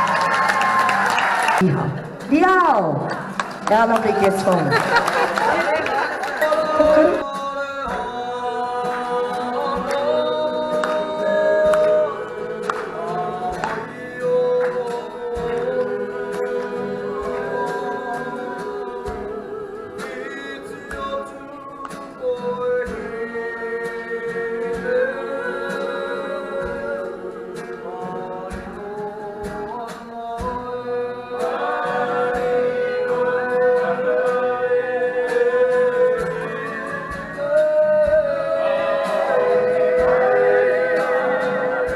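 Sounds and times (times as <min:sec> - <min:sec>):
voices singing together: 0:04.9 - 0:41.9.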